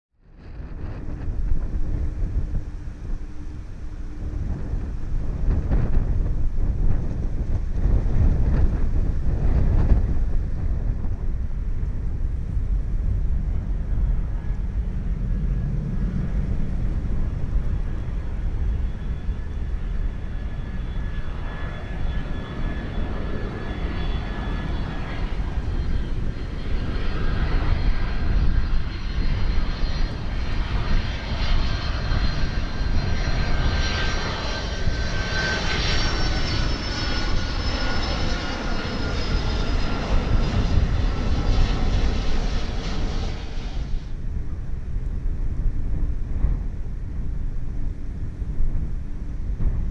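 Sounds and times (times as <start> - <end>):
high engine whine: 0.2 - 49.9
jet airliner passing overhead: 0.2 - 49.9.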